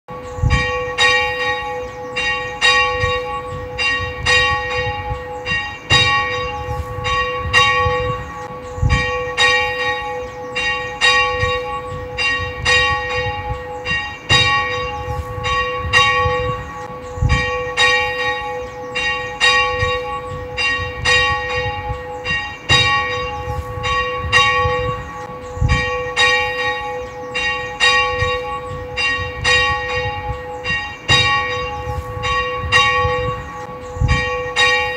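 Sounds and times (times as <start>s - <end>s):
church bell tolling: 0.1s - 34.9s.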